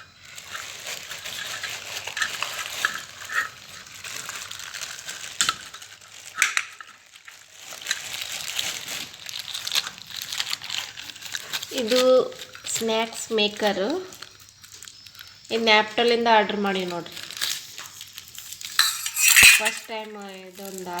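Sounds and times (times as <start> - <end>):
packaging rustling and crinkling: 0.0 - 15.6, 16.7 - 21.0.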